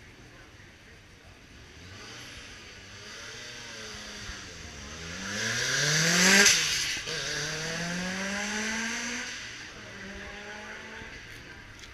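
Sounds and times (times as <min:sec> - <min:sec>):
rally car engine accelerating: 0:01.5 - 0:11.7.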